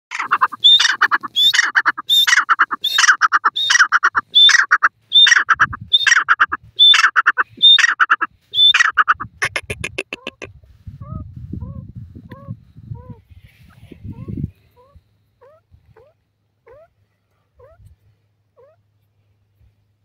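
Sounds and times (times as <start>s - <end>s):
francolin calling: 0.1s - 17.9s.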